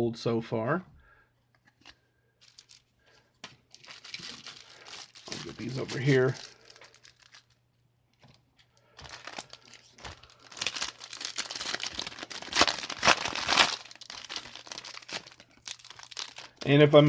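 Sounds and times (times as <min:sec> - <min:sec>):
wrapper crinkling and tearing: 0:02.4 - 0:07.6, 0:08.3 - 0:17.0.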